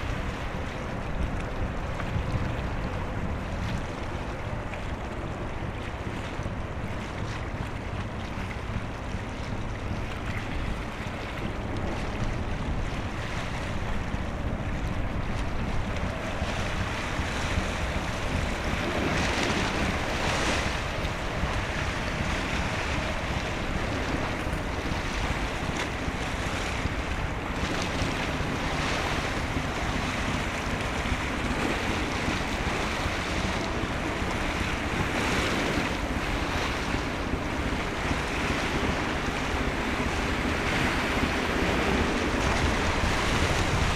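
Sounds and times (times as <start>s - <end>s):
low steady drone: 0.0s - 43.9s
sea water washing: 0.0s - 43.9s
wind buffeting microphone: 0.0s - 43.9s.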